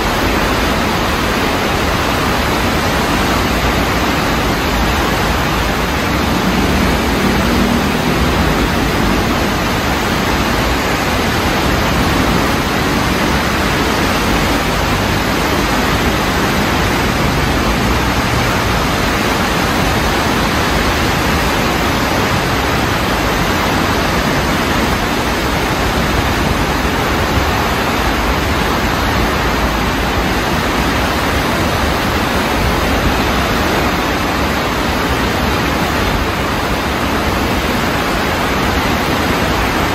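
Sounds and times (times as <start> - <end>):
flooded stream rushing: 0.0 - 39.9.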